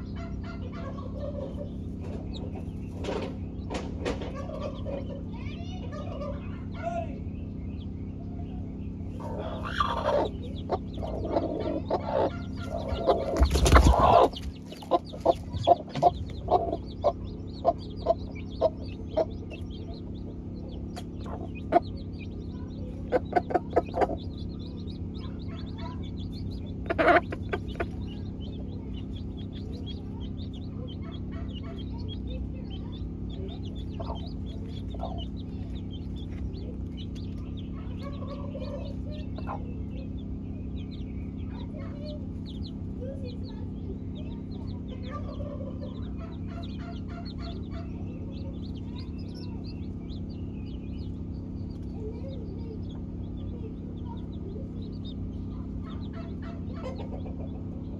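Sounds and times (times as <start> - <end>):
hens clucking: 0.0 - 7.1, 9.0 - 57.9
faint high chick peeps: 0.0 - 57.9.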